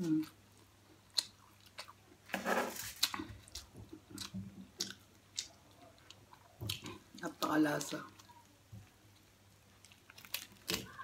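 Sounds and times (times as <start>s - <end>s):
person chewing food: 0.5s - 11.0s.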